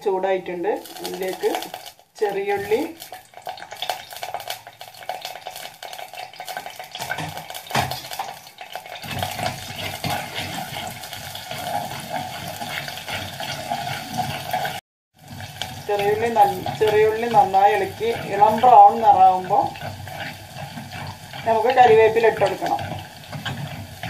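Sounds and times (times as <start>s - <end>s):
shallots sizzling in hot oil: 0.0s - 24.0s
spoon scraping and tapping pan: 0.8s - 24.0s.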